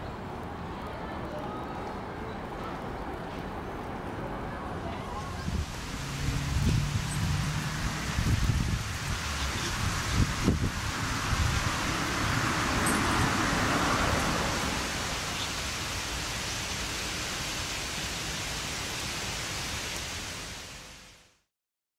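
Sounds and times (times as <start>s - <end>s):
steady background hiss: 0.0s - 21.4s.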